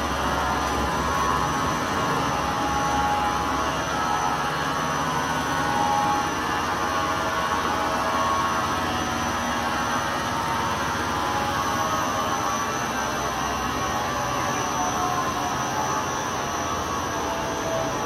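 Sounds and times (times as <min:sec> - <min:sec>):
rug cleaning machine droning: 0:00.0 - 0:18.0
steady machine tones: 0:00.0 - 0:18.0.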